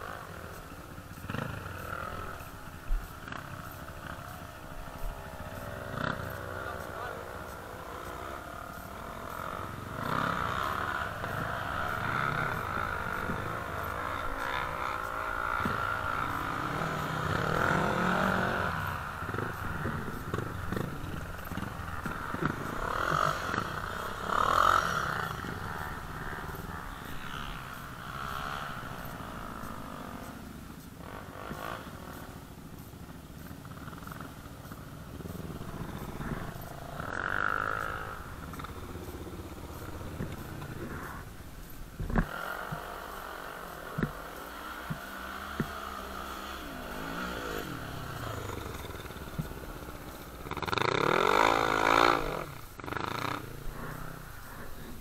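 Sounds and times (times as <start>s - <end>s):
quad bike engines revving: 0.0s - 55.0s.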